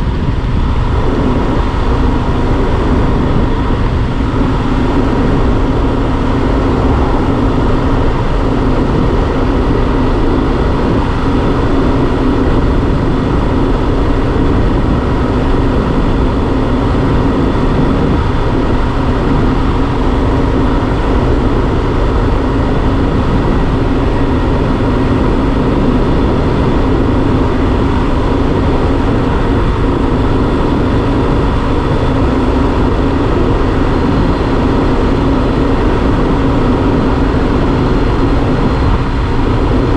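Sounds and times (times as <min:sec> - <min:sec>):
motorcycle engine cruising: 0:00.0 - 0:39.9
rush of noise: 0:00.0 - 0:39.9.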